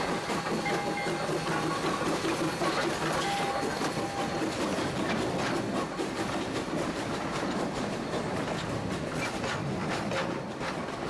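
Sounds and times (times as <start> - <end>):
train wheels clattering over joints: 0.0 - 11.0.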